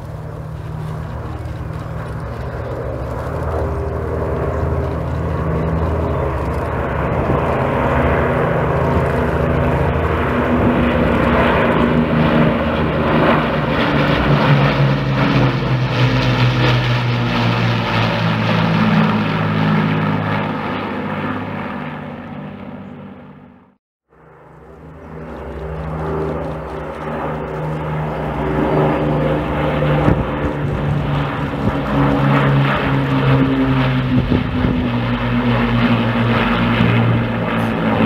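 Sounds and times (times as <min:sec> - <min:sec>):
propeller aircraft engines droning: 0:00.0 - 0:38.0.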